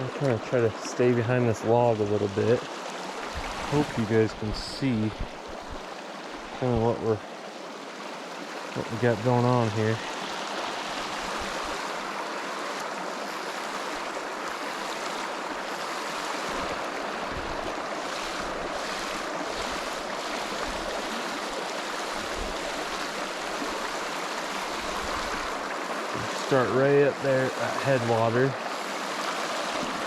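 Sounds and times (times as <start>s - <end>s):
river flowing: 0.0s - 30.0s.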